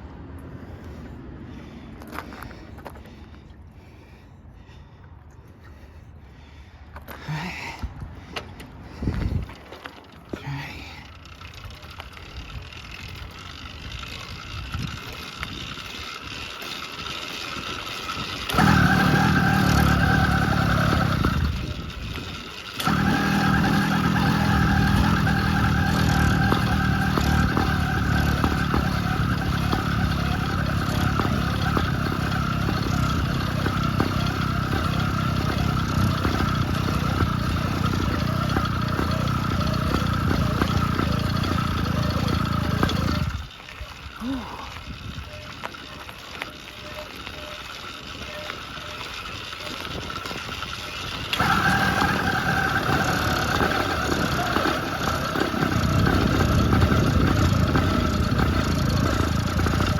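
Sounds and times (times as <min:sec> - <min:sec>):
two-stroke bicycle engine running: 0:07.2 - 0:59.9
engine starter rattle: 0:11.0 - 0:59.9.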